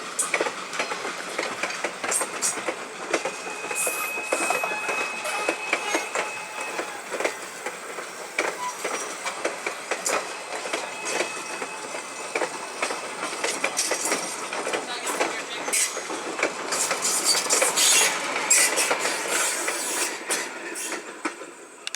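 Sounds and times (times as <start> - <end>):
train wheels clicking and rattling: 0.0 - 21.9.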